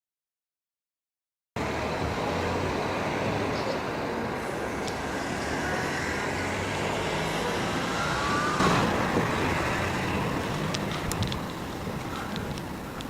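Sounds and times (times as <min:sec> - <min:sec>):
cars passing on road: 0:01.6 - 0:13.0.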